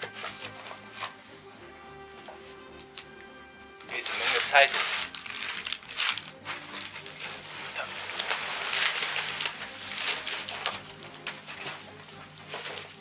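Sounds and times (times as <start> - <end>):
paper crinkling and rustling: 0.0 - 1.4, 3.9 - 13.0
background music: 0.0 - 13.0.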